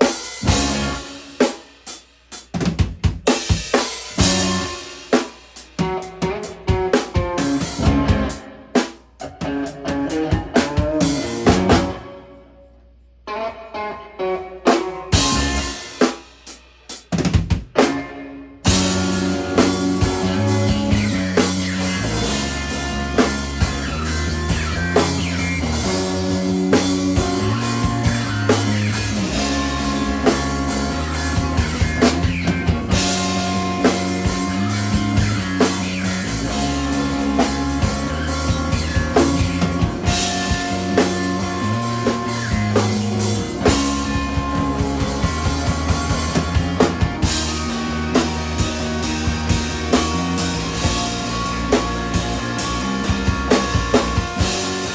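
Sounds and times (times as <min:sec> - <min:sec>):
electric guitar: 0:00.0 - 0:01.5, 0:03.3 - 0:16.3, 0:17.6 - 0:54.9
drum kit beat: 0:00.0 - 0:12.1, 0:14.7 - 0:54.9
bass guitar: 0:00.0 - 0:54.9.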